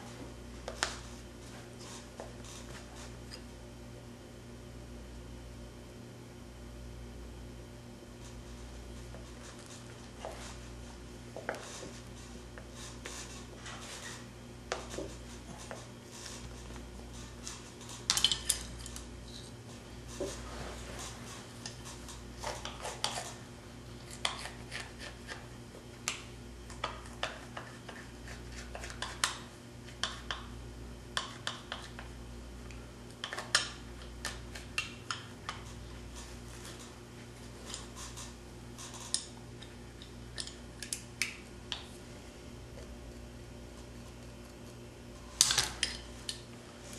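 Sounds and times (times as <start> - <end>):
low electrical hum: 0.0 - 46.9.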